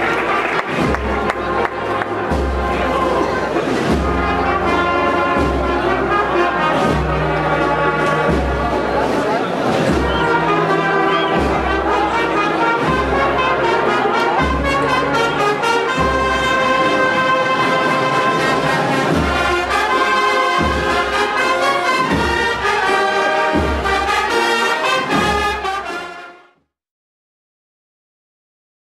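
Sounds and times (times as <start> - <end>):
brass band playing march: 0.0 - 26.7.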